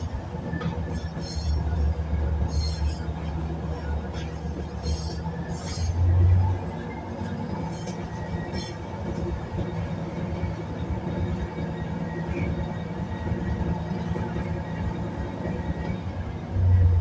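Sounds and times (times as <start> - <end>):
train engine hum: 0.0 - 17.0
wheels rattling on rail: 0.0 - 17.0.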